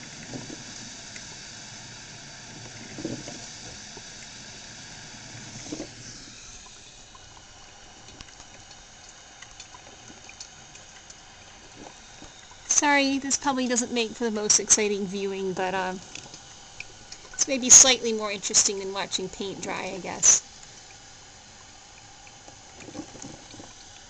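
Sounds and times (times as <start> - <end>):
coffee maker bubbling hiss: 0.0 - 24.0
water gurgles: 0.0 - 24.0.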